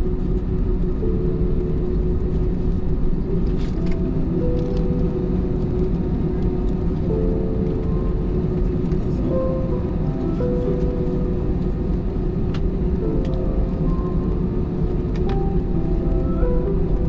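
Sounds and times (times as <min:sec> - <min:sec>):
faint steady tones: 0:00.0 - 0:17.0
low rumble of jet engines: 0:00.0 - 0:17.0.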